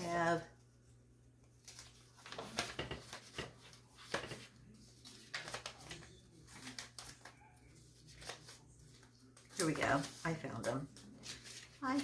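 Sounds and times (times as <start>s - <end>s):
paper rustling: 1.4s - 12.0s.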